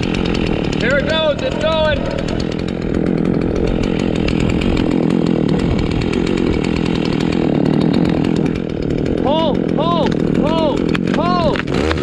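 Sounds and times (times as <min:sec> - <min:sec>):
chainsaw cutting tree trunk: 0:00.0 - 0:12.0.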